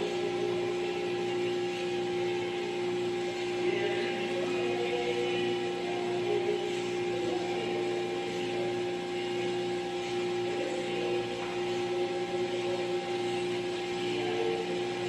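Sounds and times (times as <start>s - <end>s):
hydraulic power unit hum and whine: 0.0s - 15.0s.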